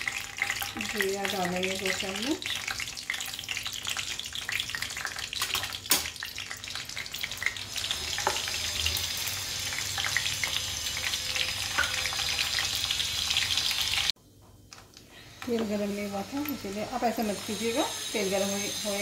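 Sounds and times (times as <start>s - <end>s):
seeds sizzling in hot oil: 0.0s - 14.2s, 15.1s - 19.0s.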